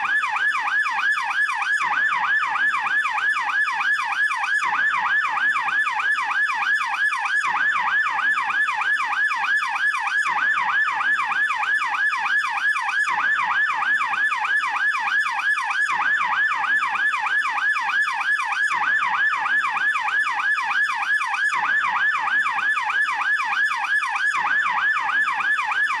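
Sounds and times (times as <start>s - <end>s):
police yelp siren: 0.0s - 26.0s.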